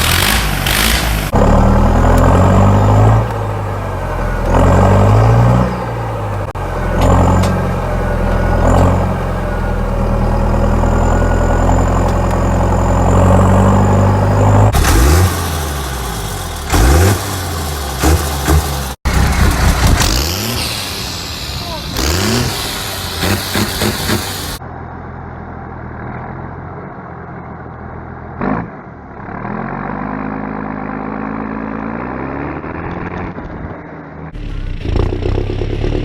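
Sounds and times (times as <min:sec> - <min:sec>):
tractor engine revving: 0:00.0 - 0:24.6, 0:25.8 - 0:36.0
tractor engine running: 0:00.0 - 0:29.0.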